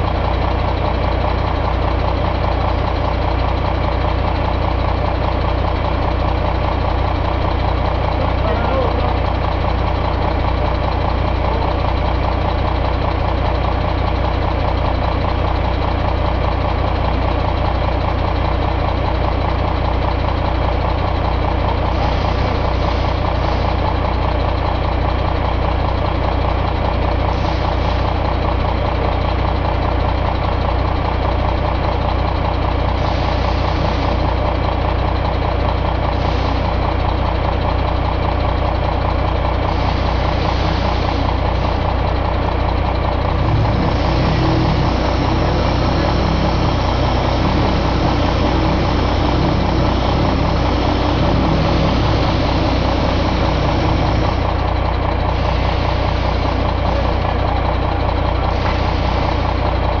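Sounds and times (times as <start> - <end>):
diesel engine running steadily: 0.0 - 60.0.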